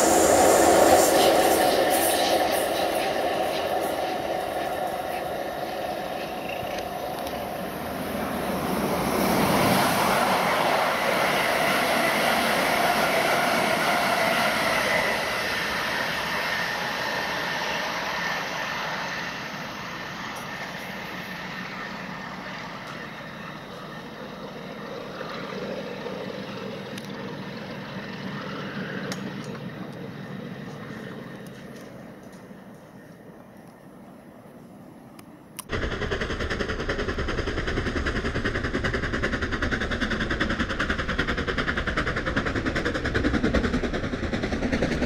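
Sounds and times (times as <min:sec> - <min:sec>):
train wheels rumbling on rails: 0:00.0 - 0:34.3, 0:35.2 - 0:45.0.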